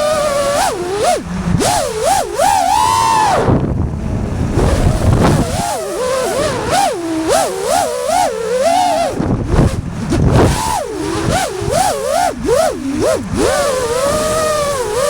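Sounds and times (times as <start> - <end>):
drone motors whining: 0.0 - 15.0
rushing air noise: 0.0 - 15.0.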